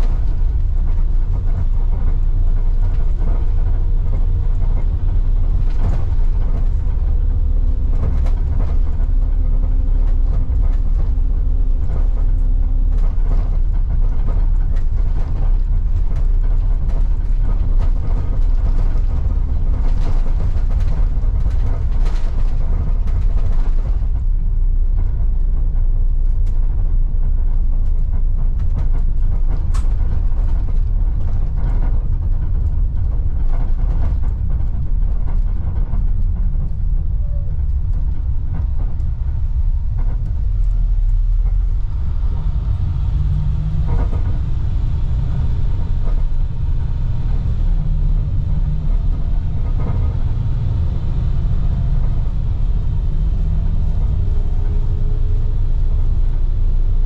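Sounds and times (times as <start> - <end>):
body and seat rattles: 0.0 - 55.1
bus engine and road rumble: 0.0 - 57.0.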